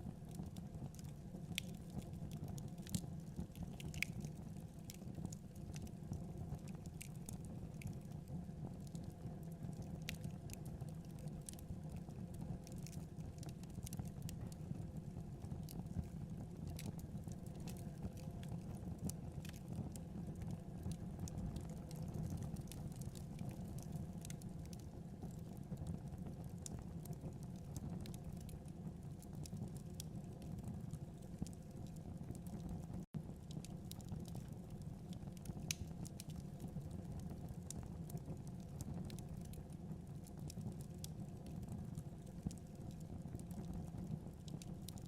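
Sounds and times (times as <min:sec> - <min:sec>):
burning wood crackling and popping: 0:00.0 - 0:45.0
fire flames rumbling: 0:00.0 - 0:45.0.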